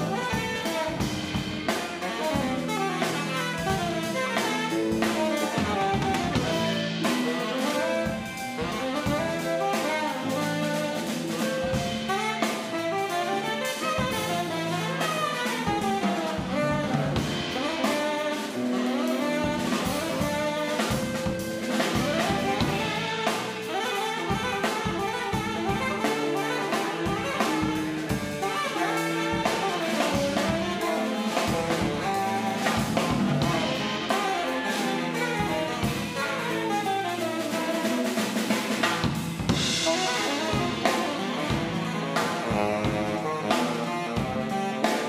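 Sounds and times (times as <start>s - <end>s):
drum kit: 0.0s - 45.0s
electric bass: 0.0s - 45.0s
electric guitar: 0.0s - 45.0s
saxophone: 0.0s - 45.0s.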